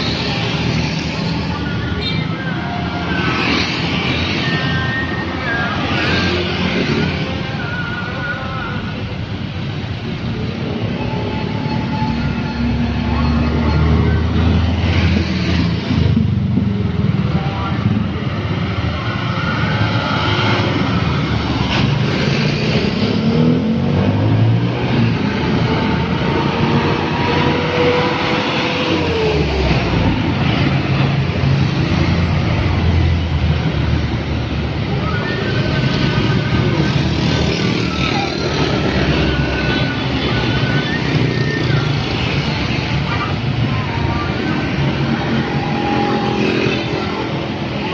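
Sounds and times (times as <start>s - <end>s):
trucks and motorcycles passing: 0.0s - 47.9s.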